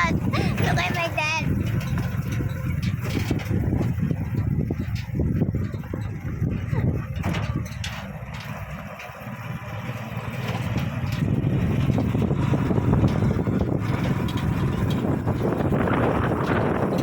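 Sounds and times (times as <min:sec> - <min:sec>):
wind on microphone: 0:00.0 - 0:08.6, 0:10.6 - 0:17.0
rattling carriage: 0:00.0 - 0:17.0
tuk tuk motor: 0:00.0 - 0:17.0.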